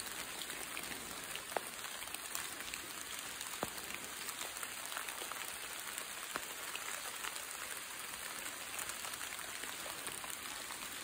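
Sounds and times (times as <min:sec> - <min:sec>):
rain falling on leaves: 0:00.0 - 0:11.0.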